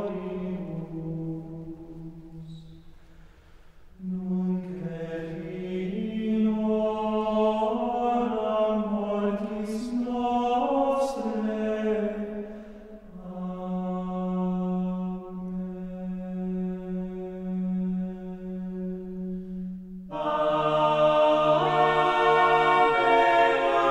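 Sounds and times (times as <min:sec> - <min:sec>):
slow vocal chant: 0:00.0 - 0:03.2, 0:03.9 - 0:23.9.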